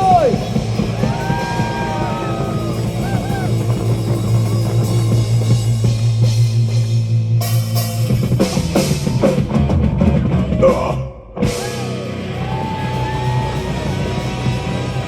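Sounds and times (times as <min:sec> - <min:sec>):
drum fills: 0:00.0 - 0:15.0.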